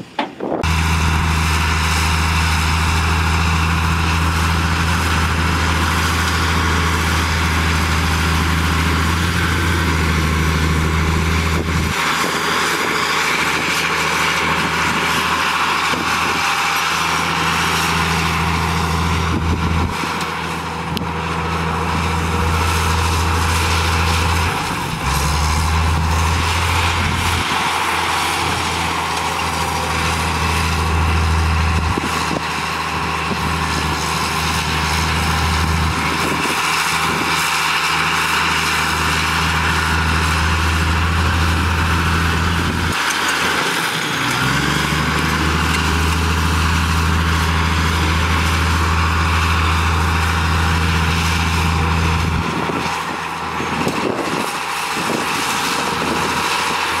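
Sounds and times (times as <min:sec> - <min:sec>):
bulldozer diesel engine droning: 0:00.0 - 0:57.0
clattering mechanical noise: 0:00.0 - 0:57.0.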